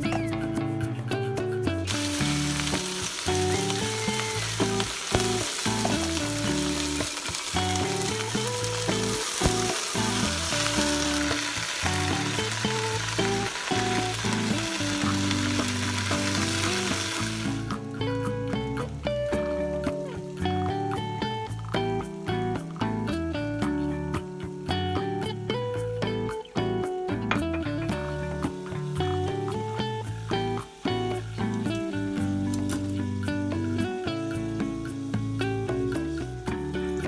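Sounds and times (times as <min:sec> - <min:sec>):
background music: 0:00.0 - 0:37.0
food sizzling in a pan: 0:01.9 - 0:26.5, 0:27.2 - 0:37.0.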